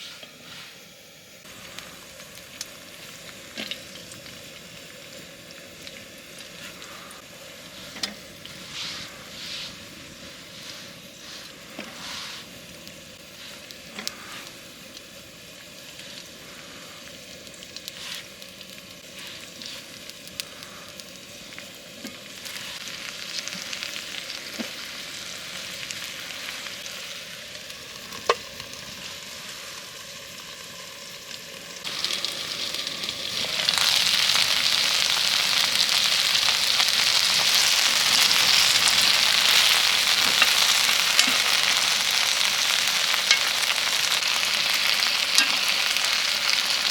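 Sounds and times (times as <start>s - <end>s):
food sizzling on a hot plate: 0.0s - 46.9s
fire crackles and clicks: 1.4s - 46.9s.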